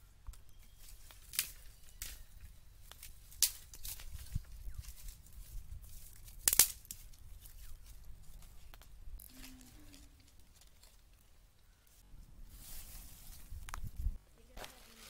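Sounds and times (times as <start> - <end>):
sticks and bark rustling and snapping: 0.2 - 12.0, 12.9 - 15.0.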